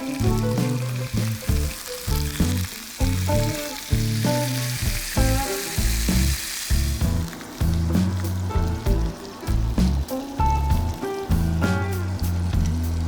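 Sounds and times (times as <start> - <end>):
background music with steady beat: 0.0 - 13.0
food sizzling in frying pan: 0.0 - 13.0.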